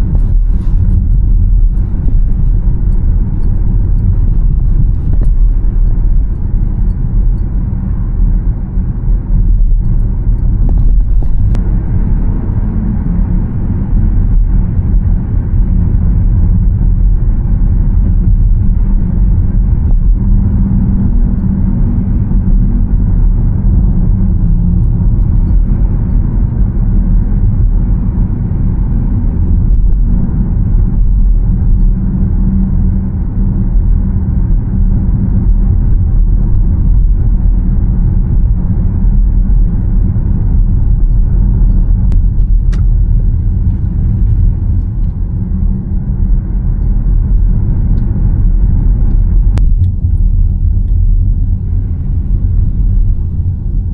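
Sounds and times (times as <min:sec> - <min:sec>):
tyre and road noise: 0:00.0 - 0:53.9.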